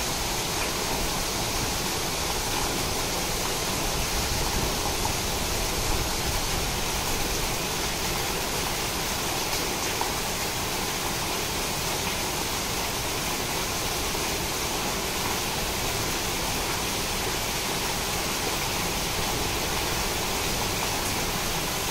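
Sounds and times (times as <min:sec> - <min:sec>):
heavy rain on foliage and water: 0:00.0 - 0:21.9.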